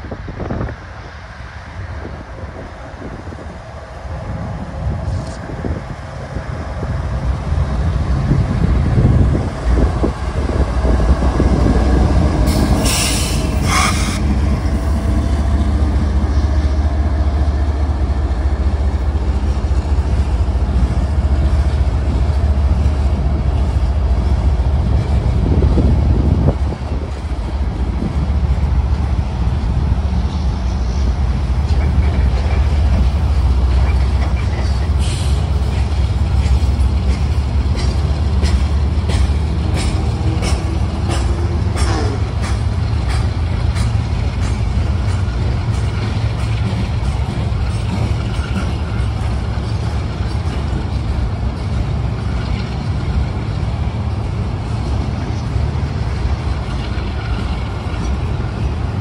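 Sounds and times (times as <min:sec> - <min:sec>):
freight cars rumbling and rattling: 0:00.0 - 0:59.0
locomotive engine rumble: 0:00.0 - 0:59.0.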